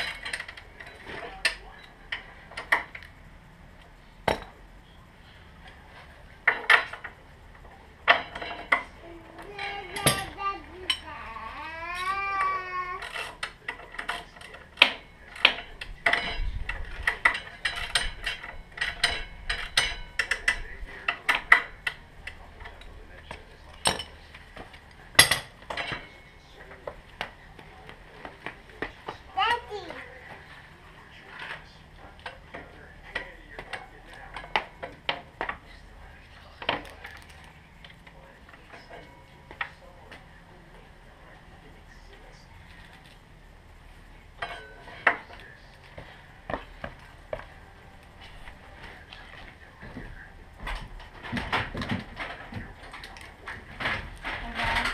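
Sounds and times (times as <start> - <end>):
hand tools clinking on metal: 0.0 - 3.1, 8.0 - 39.9, 44.3 - 54.9.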